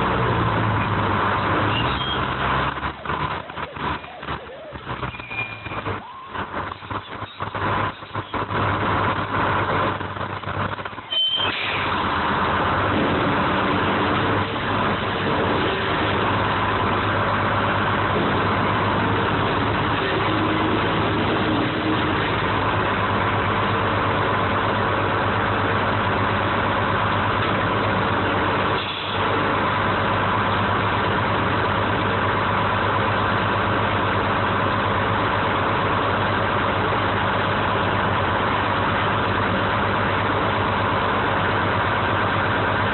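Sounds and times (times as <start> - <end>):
crane engine running: 0.0 - 42.9.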